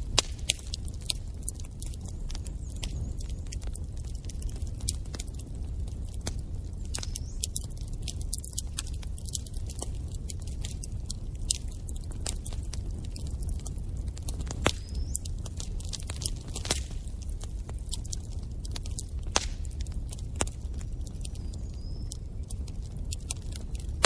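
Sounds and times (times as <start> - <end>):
fire popping and snapping: 0.0 - 24.0
low rumble of burning: 0.0 - 24.0
wood fire crackling: 0.0 - 24.0.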